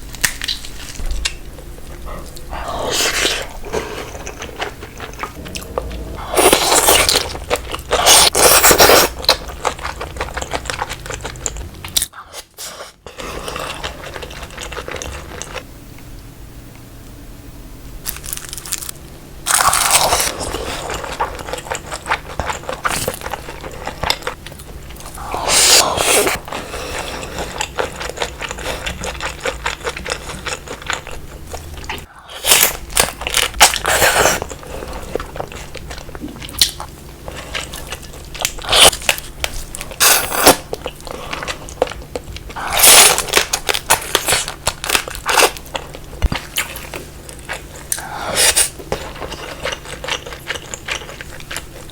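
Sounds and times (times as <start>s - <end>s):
chewing: 0.1s - 15.6s, 19.5s - 51.9s.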